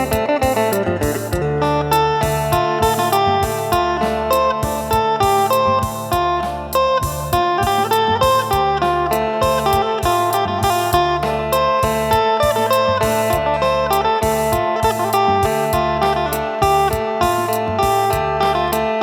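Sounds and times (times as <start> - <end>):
bass line: 0.0 - 19.0
plucked lute melody: 0.0 - 19.0
steady beat: 0.0 - 19.0.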